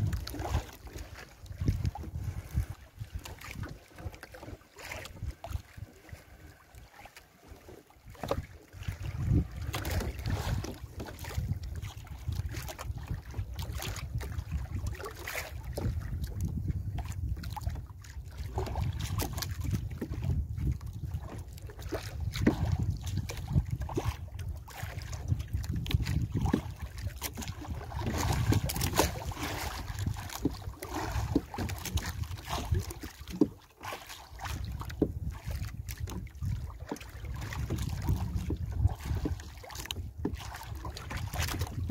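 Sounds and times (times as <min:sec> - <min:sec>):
wind rumbling on microphone: 0:00.0 - 0:06.9, 0:08.0 - 0:33.6, 0:34.3 - 0:41.9.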